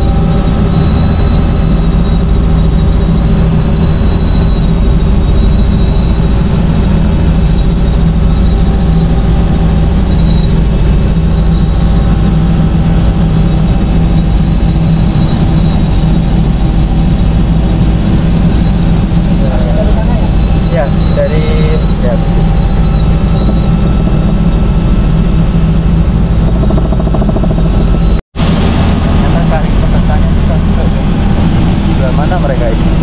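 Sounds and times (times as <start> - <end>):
helicopter rotor and engine drone: 0.0 - 33.0
high whine: 0.0 - 33.0.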